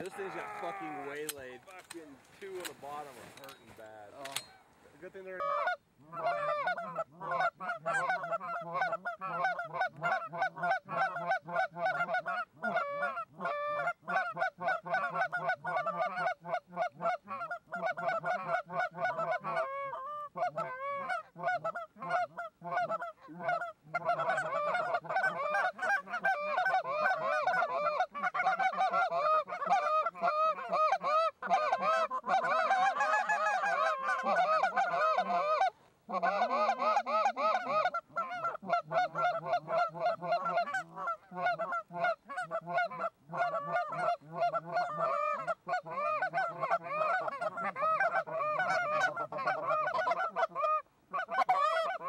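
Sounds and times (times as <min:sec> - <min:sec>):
geese honking and clucking: 0:00.0 - 0:52.0.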